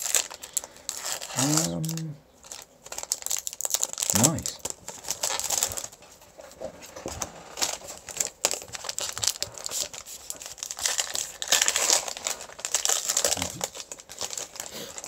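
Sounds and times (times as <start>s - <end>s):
foil wrapper crinkling and tearing: 0.0s - 6.0s, 7.3s - 15.0s.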